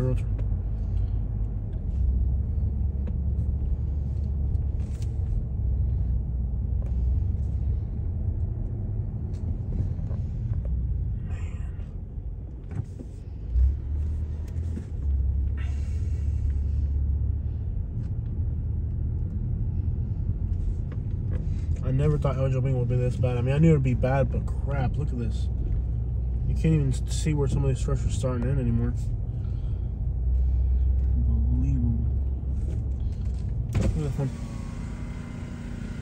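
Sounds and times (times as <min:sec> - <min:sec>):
car driving rumble from inside: 0:00.0 - 0:36.0.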